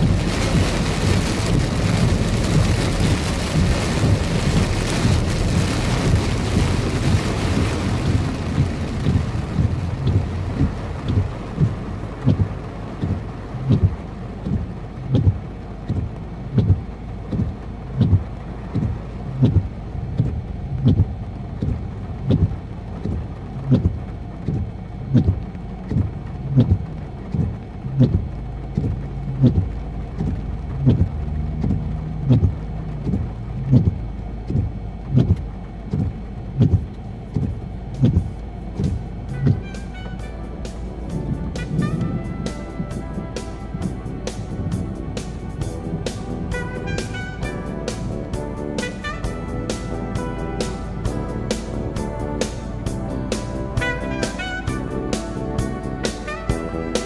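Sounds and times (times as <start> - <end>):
windshield wipers knocking: 0.0 - 47.9
heavy rain on a car: 0.0 - 57.0
low engine and road rumble: 0.0 - 57.0.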